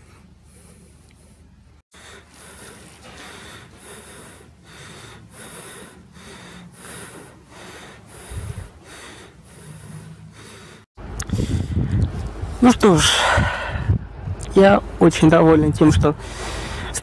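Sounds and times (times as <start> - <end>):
fast heavy breathing: 0.0 - 14.1, 16.2 - 17.0.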